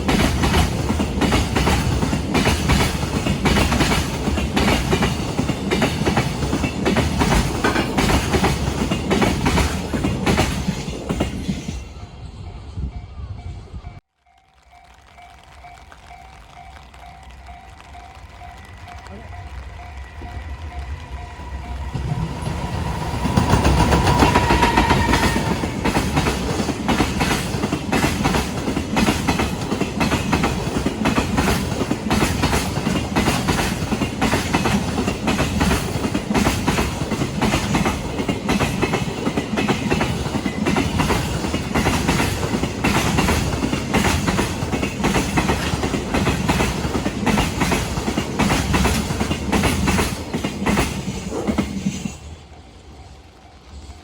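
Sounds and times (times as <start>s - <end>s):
train wheels clacking over rail joints: 0.0s - 11.8s, 19.6s - 52.3s.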